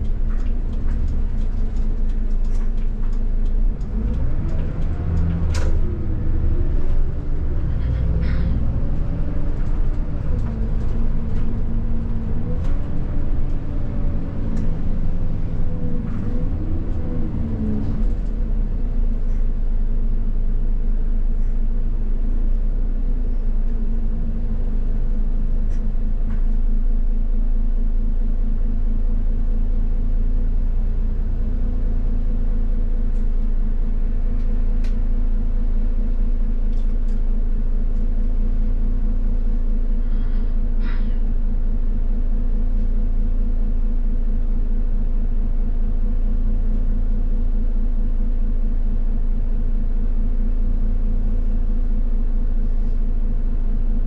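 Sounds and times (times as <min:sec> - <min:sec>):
bus engine and road rumble: 0:00.0 - 0:54.0
constant hum: 0:00.0 - 0:54.0.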